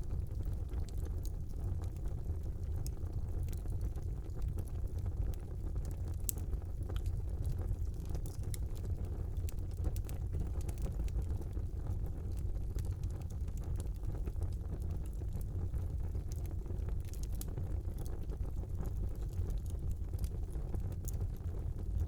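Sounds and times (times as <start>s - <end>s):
fire crackles and pops: 0.0s - 22.0s
fire low rumble: 0.0s - 22.0s.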